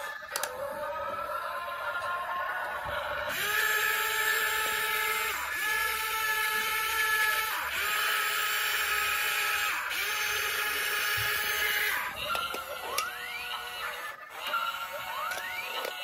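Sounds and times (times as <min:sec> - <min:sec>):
toy electric motors whining: 0:00.0 - 0:16.0.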